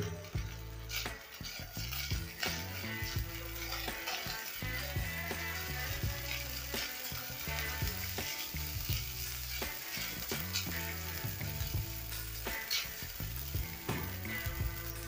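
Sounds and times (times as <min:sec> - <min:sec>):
aromatics sizzling in oil: 0:00.0 - 0:15.0
spatula scraping a pan: 0:00.0 - 0:15.0.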